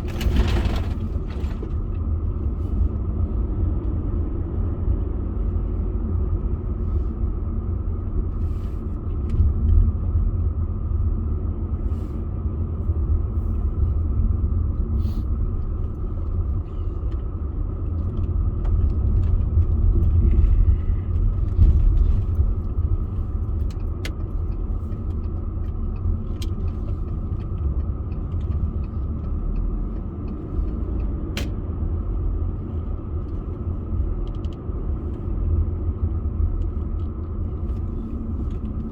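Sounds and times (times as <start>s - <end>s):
car driving rumble: 0.0s - 38.9s.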